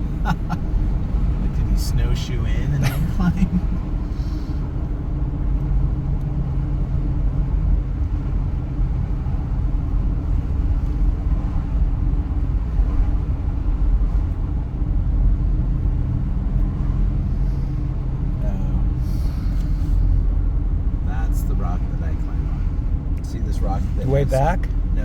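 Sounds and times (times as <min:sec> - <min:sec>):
car interior engine and tyre drone: 0:00.0 - 0:25.0.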